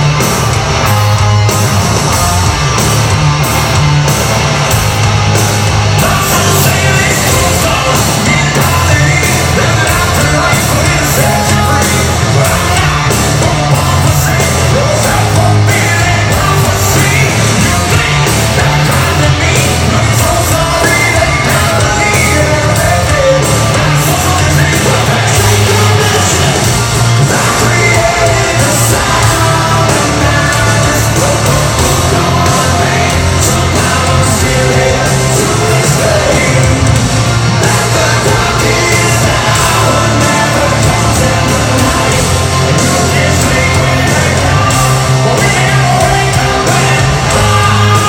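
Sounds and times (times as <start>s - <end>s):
hard rock band playing: 0.0s - 48.0s
man singing and shouting: 5.9s - 48.0s.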